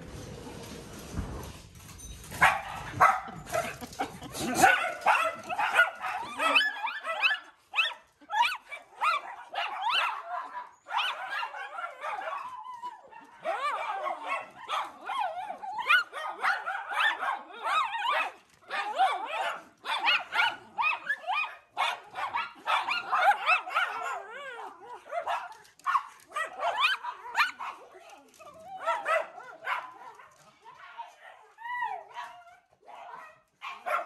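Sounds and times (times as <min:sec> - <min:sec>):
dogs yipping and barking: 0:02.0 - 0:34.0.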